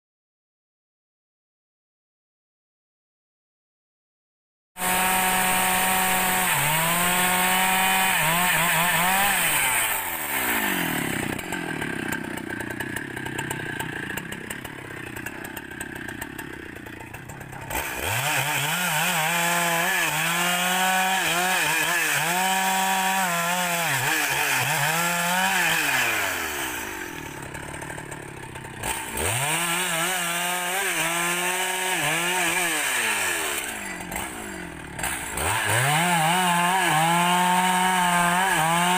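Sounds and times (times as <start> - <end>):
chainsaw cutting wood: 4.8 - 38.9.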